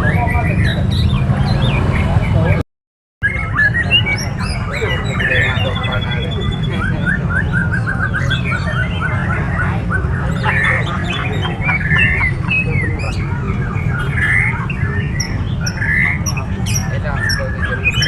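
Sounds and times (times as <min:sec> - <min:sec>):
caged songbirds chirping and singing: 0:00.0 - 0:02.6, 0:03.2 - 0:18.0.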